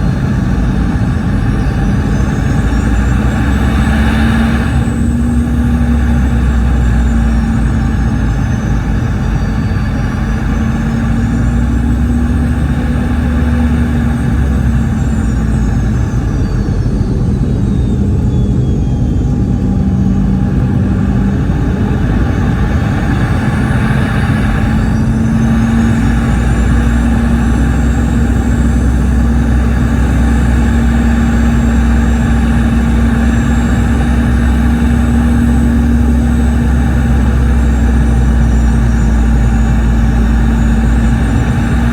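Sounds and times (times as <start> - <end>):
aircraft cabin rumble and hiss: 0.0 - 41.9
high-pitched jet engine whine: 0.0 - 41.9.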